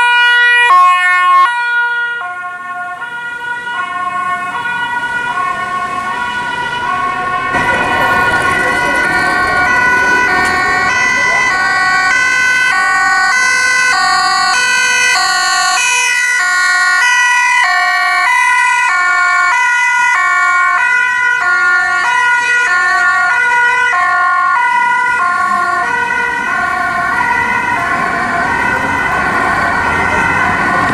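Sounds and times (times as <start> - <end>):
traffic noise: 0.0 - 30.9
two-tone emergency sirens: 0.0 - 30.9.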